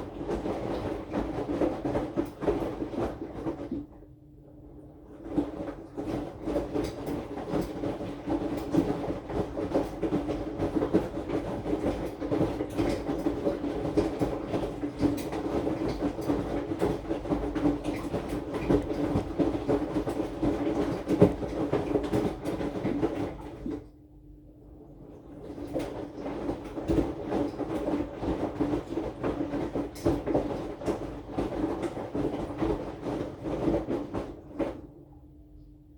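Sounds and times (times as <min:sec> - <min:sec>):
laundry thumping in drum: 0:00.0 - 0:03.9, 0:05.1 - 0:23.8, 0:25.3 - 0:35.0
washing machine motor hum: 0:00.0 - 0:35.9.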